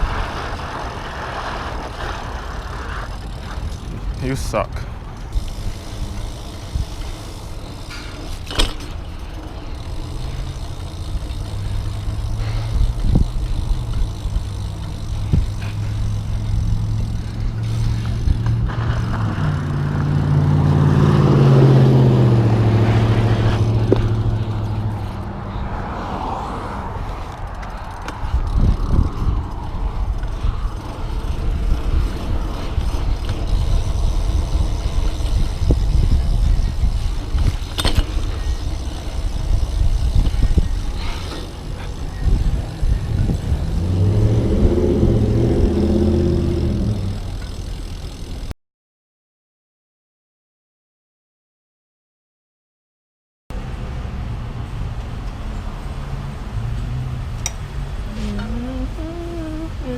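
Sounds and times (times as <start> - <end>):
road traffic rumble: 0.0 - 48.5, 53.5 - 59.9
vehicle engine passing: 0.0 - 48.5.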